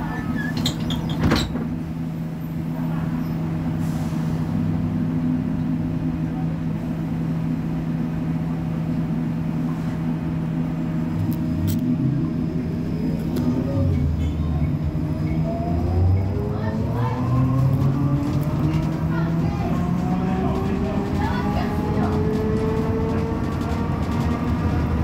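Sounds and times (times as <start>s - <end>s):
bus engine idling hum: 0.0s - 25.0s.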